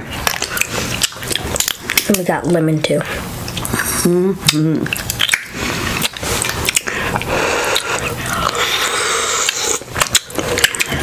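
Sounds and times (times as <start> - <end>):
people chewing and biting: 0.0 - 2.3, 3.2 - 11.0.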